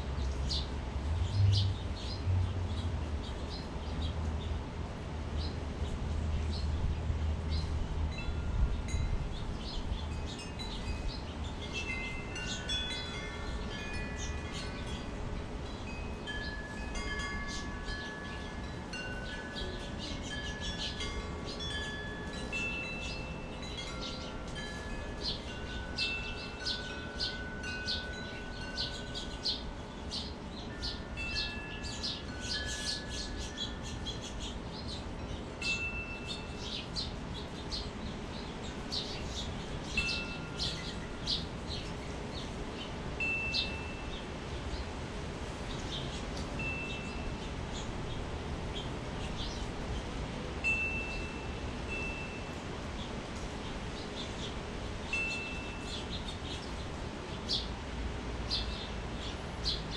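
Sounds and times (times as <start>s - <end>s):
wind chimes ringing: 7.4s - 57.8s.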